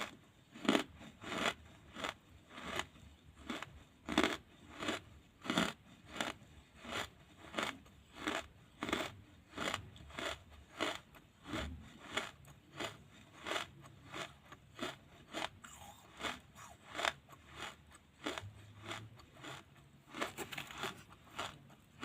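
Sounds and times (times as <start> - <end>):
charcoal being chewed: 0.0 - 22.0.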